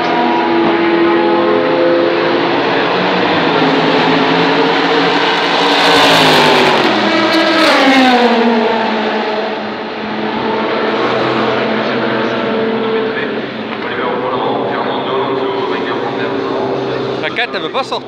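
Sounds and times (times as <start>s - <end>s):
race car passing at speed: 0.0s - 18.0s
race engines: 0.0s - 18.0s.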